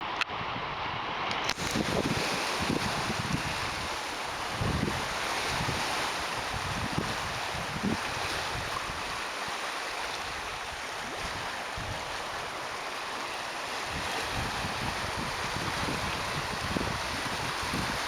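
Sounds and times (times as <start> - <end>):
waves breaking on rocky shore: 1.4 - 18.0.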